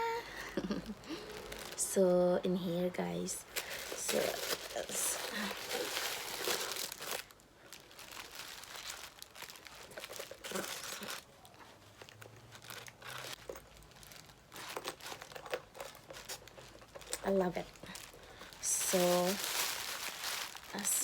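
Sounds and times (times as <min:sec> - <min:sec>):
packaging crinkling and rustling: 0:01.1 - 0:02.1, 0:03.0 - 0:21.0.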